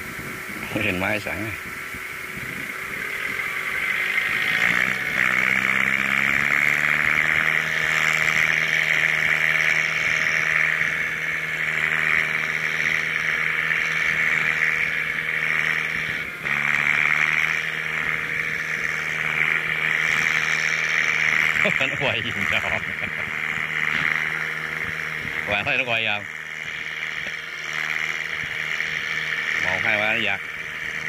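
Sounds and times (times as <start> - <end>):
diesel engines working under load: 0.0 - 31.0.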